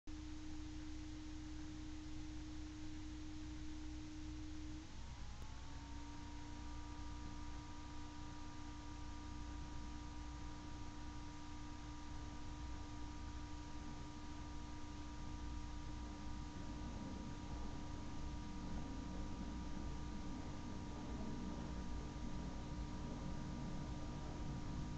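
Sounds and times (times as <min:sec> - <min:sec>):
high pure whine: 0:00.1 - 0:24.9
low hum and hiss: 0:00.1 - 0:24.9.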